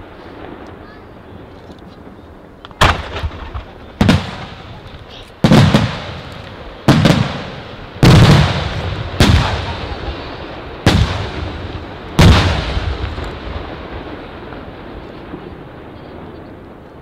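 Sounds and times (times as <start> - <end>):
firework shells booming with echo: 0.0 - 16.8.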